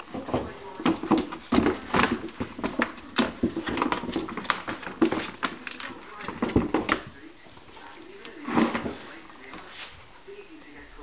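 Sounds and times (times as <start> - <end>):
dog claws scrabbling on plastic: 0.1 - 9.1.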